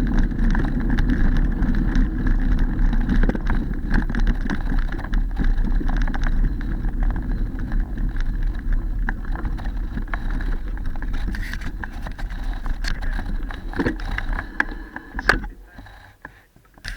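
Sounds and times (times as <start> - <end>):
wind on microphone: 0.0 - 16.2
bike clicks and rattles: 0.0 - 16.9
bike tyre noise on dirt: 0.0 - 16.9.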